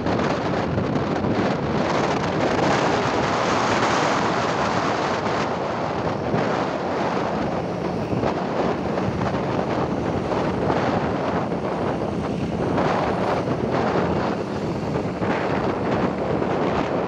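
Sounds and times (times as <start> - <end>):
motorbike engine: 0.0 - 17.0
tyres on road: 0.0 - 17.0
wind on microphone: 0.0 - 17.0.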